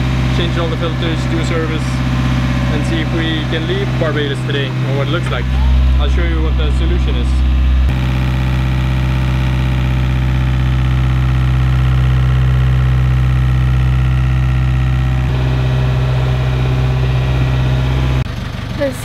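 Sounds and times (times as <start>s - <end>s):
inboard diesel engine running: 0.0s - 19.0s.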